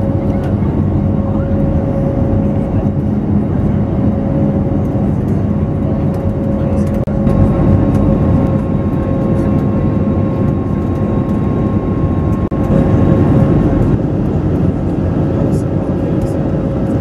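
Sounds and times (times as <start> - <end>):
airplane cabin engine rush: 0.0 - 17.0
droning engine hum: 0.0 - 17.0.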